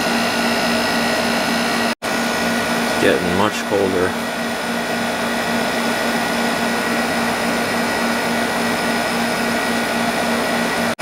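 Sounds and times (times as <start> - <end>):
air conditioner running: 0.0 - 11.0.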